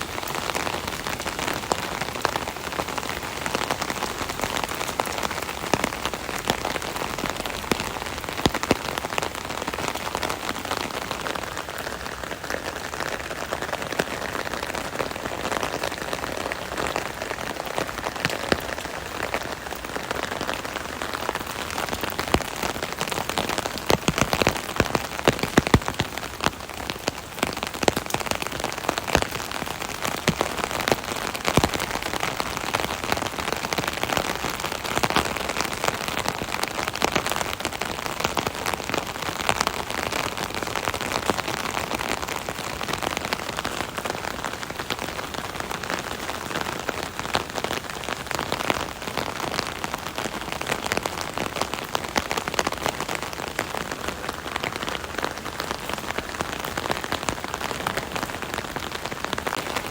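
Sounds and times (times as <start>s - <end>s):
rain pattering on umbrella: 0.0s - 59.9s.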